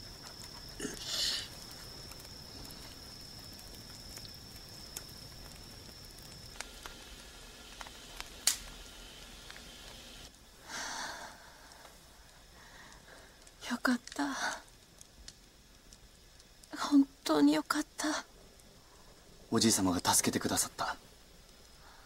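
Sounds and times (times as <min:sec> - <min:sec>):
faint high whine: 0:00.0 - 0:22.0
wood fire crackling: 0:00.0 - 0:22.0.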